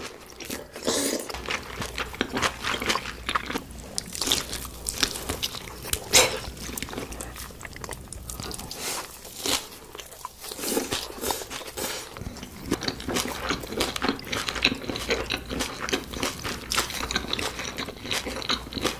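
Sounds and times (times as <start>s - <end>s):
chewing crunchy food: 0.0s - 18.9s.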